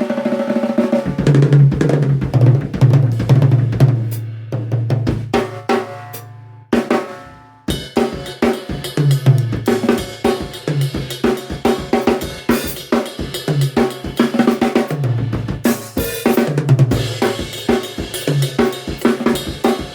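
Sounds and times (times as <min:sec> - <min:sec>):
drum kit beat: 0:00.0 - 0:19.9.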